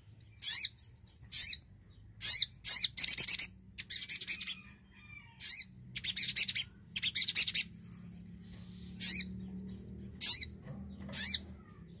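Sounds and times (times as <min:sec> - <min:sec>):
sharp bird calls: 0:00.0 - 0:12.0
bird chattering calls: 0:00.3 - 0:04.7, 0:05.3 - 0:12.0.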